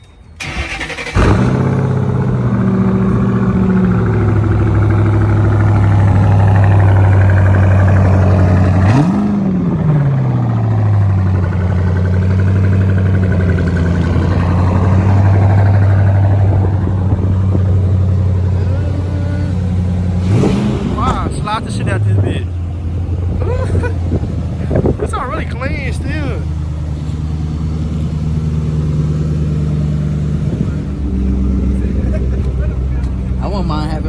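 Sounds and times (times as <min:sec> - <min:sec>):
car engine starting and idling: 0:00.2 - 0:34.0.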